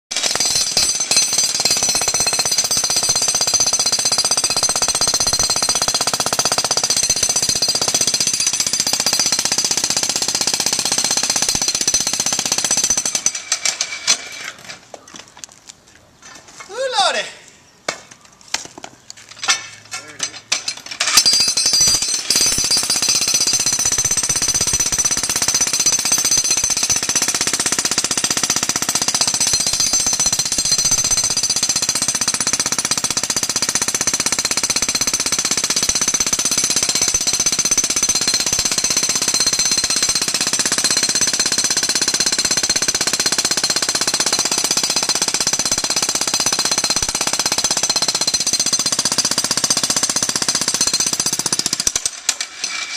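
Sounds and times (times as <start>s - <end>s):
jackhammer breaking concrete: 0.1s - 13.9s, 21.0s - 52.9s.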